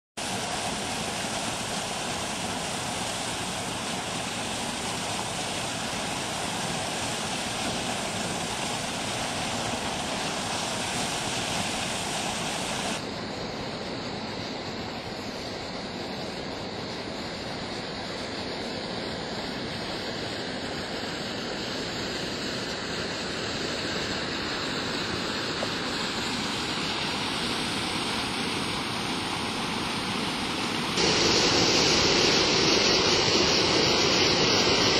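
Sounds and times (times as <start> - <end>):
water rushing over small fall: 0.2 - 34.9.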